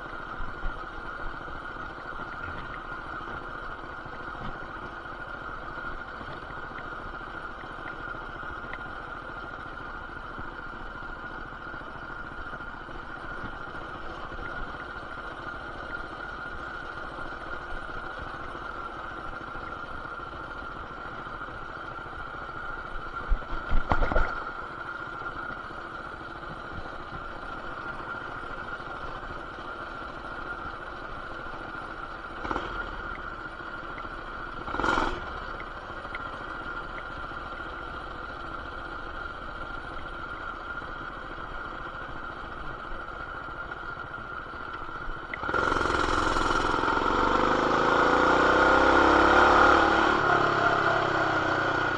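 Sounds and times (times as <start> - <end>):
muffled mini bike engine running: 0.0 - 51.9.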